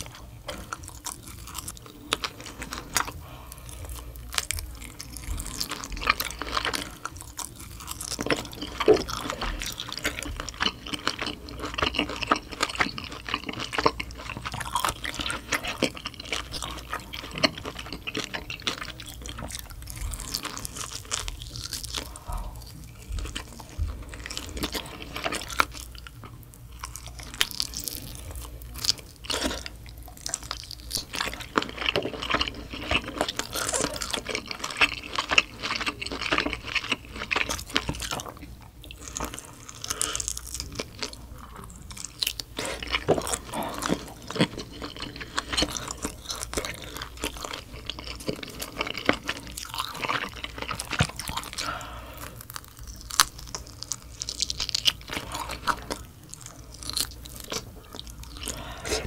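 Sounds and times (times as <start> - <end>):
chewing and biting: 0.0 - 59.0.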